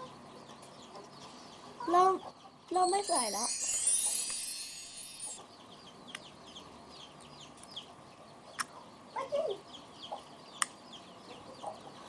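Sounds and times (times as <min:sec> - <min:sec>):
birds peeping: 0:00.0 - 0:12.0.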